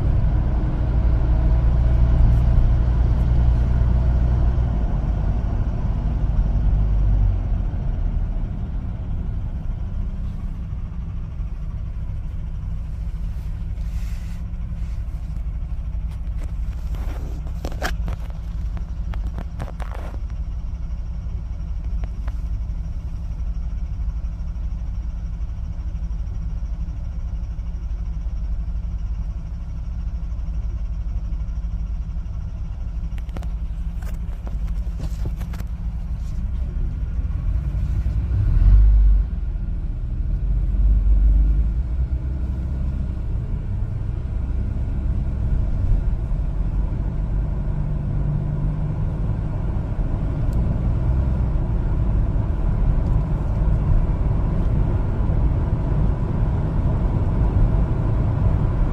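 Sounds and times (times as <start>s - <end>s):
truck engine and road rumble: 0.0s - 58.9s.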